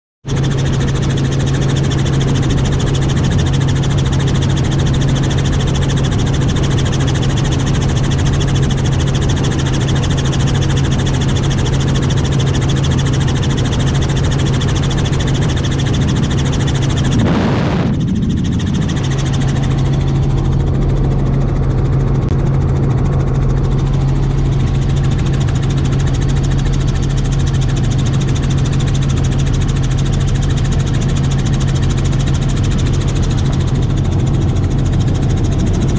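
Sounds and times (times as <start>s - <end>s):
helicopter rotor and engine drone: 0.3s - 35.9s.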